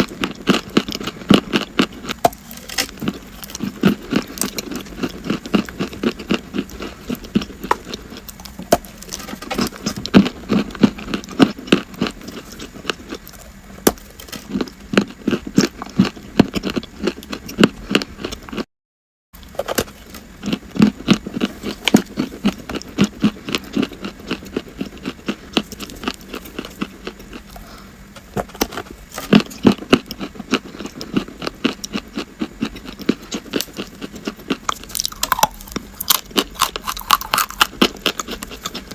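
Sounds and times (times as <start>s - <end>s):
crunching and chewing chalk: 0.0s - 18.7s, 19.4s - 38.9s.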